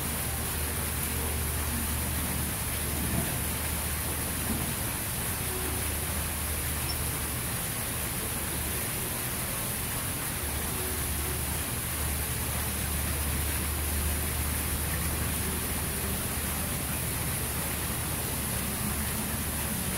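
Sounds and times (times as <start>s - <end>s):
steady outdoor hiss: 0.0s - 19.9s.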